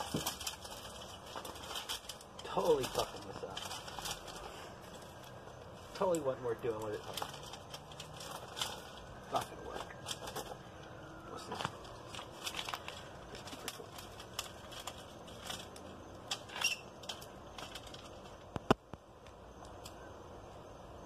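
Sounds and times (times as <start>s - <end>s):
dry twigs snapping and crackling: 0.0s - 20.0s.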